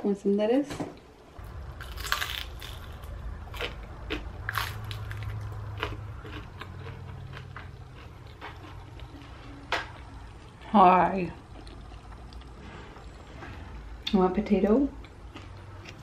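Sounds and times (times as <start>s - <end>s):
low steady hum: 0.0s - 16.0s
crunching and chewing crisp food: 1.4s - 13.2s, 14.8s - 16.0s.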